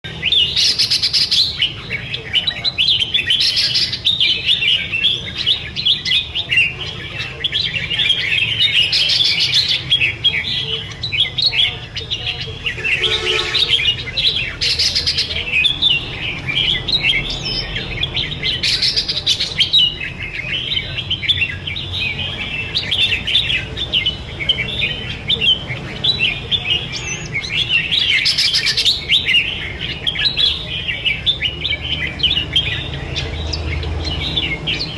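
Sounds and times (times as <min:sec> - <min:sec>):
birds singing rapid high chirps: 0:00.0 - 0:34.9.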